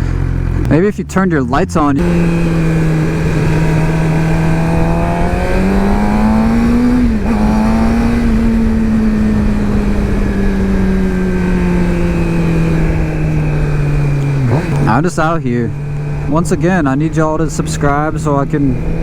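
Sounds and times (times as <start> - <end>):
motorcycle engine revving: 0.0 - 19.0
wind rush: 2.0 - 19.0.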